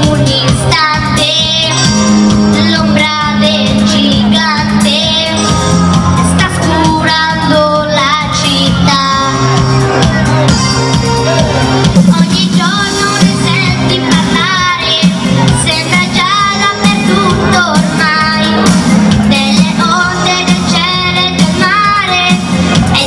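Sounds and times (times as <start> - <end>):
boy singing pop ballad: 0.0 - 10.5, 11.3 - 23.0
backing track with bass and drums: 0.0 - 23.0.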